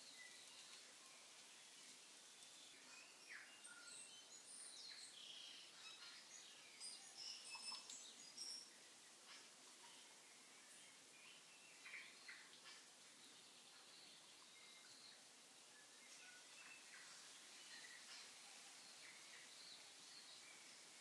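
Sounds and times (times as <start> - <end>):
faint bird chirping: 0.0 - 21.0
quiet hiss: 0.0 - 21.0.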